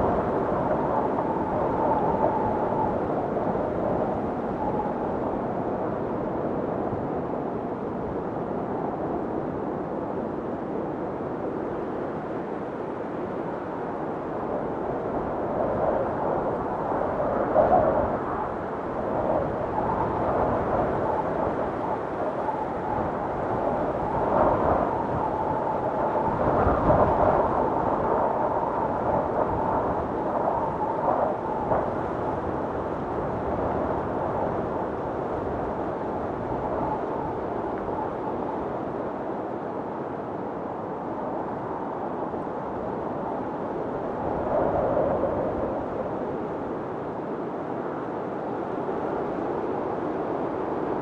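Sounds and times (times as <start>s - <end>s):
wind whistling: 0.0s - 9.9s, 12.0s - 51.0s
snowstorm wind blowing: 0.0s - 51.0s.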